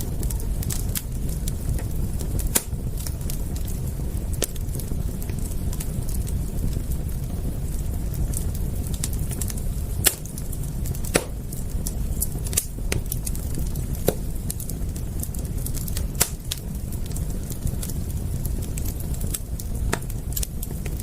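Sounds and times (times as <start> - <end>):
low rumble: 0.0 - 21.0
wood fire crackling: 0.0 - 21.0.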